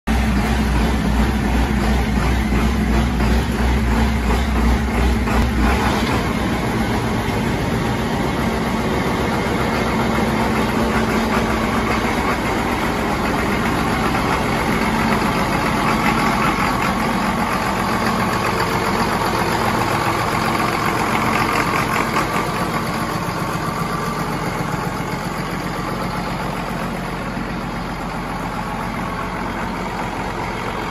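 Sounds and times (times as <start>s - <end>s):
diesel engine idling: 0.1s - 30.9s.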